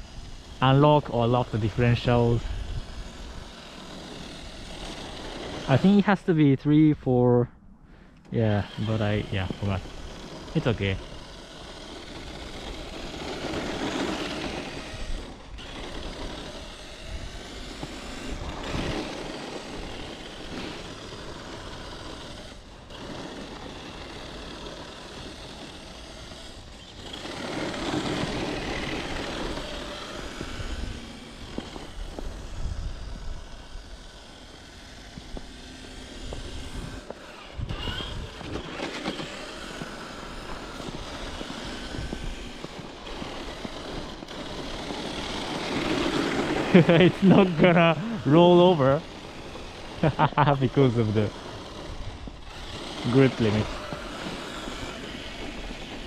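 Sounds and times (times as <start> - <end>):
rc truck motor whine: 0.0 - 56.0
tyres churning snow: 0.0 - 56.0.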